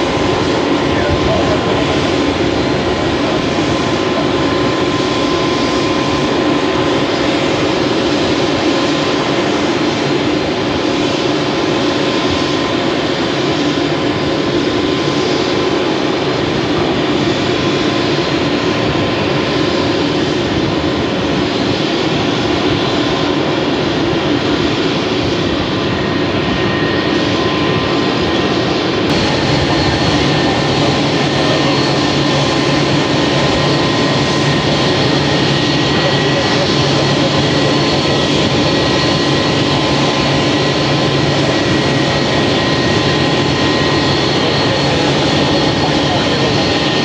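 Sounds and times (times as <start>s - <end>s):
jet engines idling: 0.0s - 47.0s.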